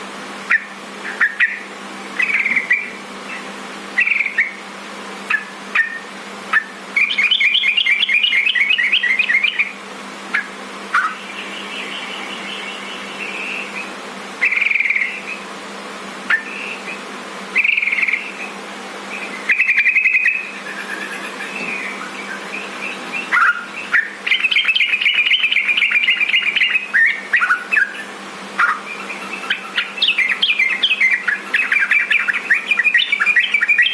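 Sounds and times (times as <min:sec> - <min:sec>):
bulbul singing: 0:00.5 - 0:15.5, 0:16.2 - 0:33.9.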